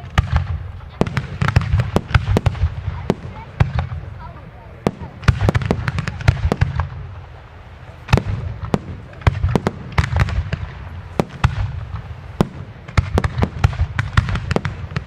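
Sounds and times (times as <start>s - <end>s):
firework bangs: 0.0s - 15.0s
rumbling echo: 0.0s - 15.0s.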